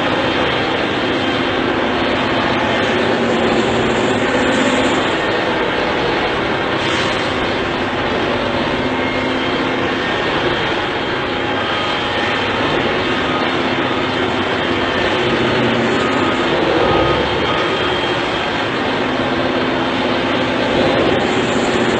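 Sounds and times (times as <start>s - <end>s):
vehicle engine roar: 0.0s - 21.9s.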